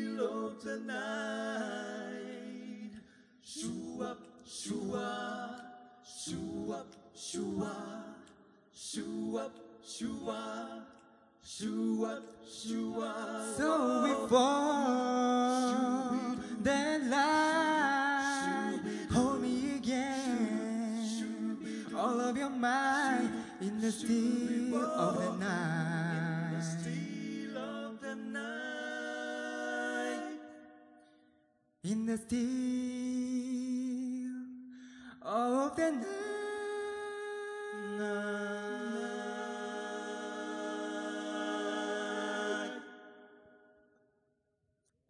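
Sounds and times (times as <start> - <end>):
vocal group singing in harmony: 0.0 - 44.1.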